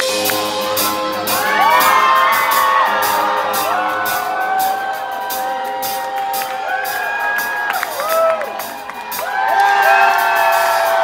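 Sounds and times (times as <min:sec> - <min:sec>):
live rock band: 0:00.0 - 0:11.0
crowd whooping and shouting: 0:01.1 - 0:11.0.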